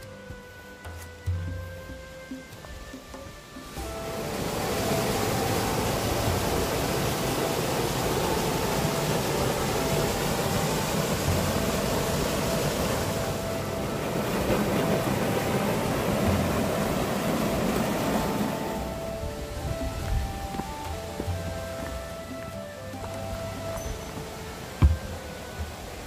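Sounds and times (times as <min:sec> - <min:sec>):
waterfall pouring into rock pool: 0:03.7 - 0:26.0.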